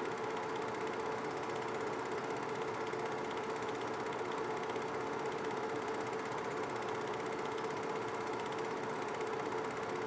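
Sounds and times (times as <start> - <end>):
film projector whirring: 0.0 - 10.0.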